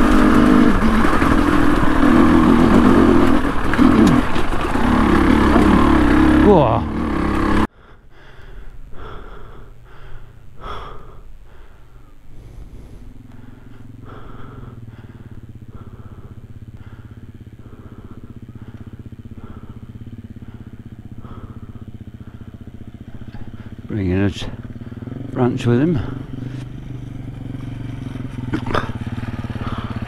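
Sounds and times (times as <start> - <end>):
motorcycle engine running: 0.0 - 7.7, 9.0 - 30.0.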